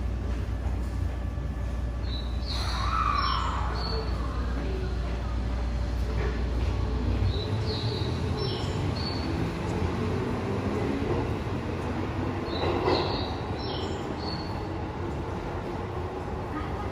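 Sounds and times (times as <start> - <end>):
subway train motor hum: 0.0 - 16.9.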